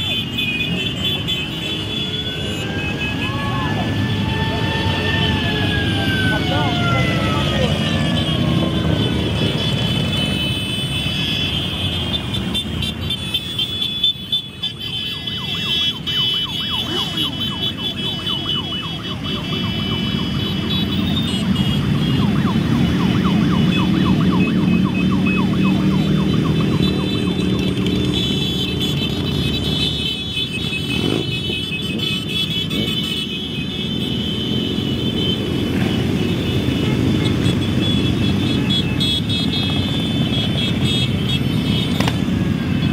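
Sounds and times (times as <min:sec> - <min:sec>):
many motorcycle engines rumbling: 0:00.0 - 0:42.9.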